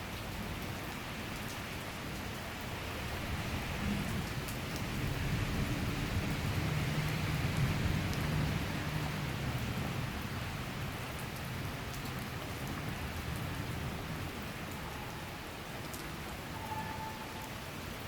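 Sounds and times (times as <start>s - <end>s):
rain shower falling: 0.0s - 18.0s.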